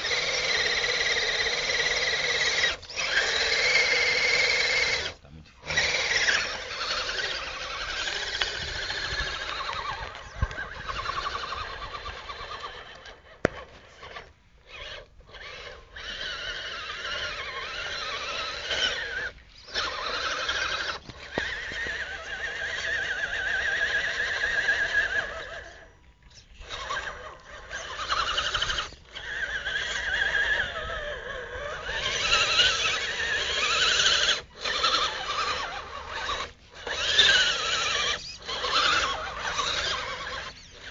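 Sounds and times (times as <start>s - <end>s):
toy truck motor whining: 0.0s - 40.9s.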